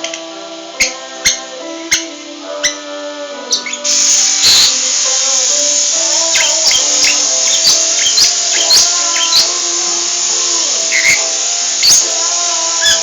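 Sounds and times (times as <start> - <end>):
steady held tones: 0.0 - 13.0
lovebird chirping: 0.8 - 13.0.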